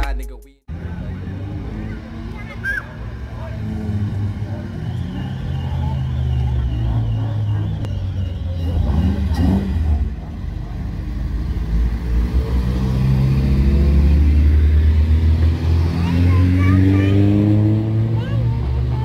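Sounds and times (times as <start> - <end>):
car engine passing by: 0.7 - 19.0.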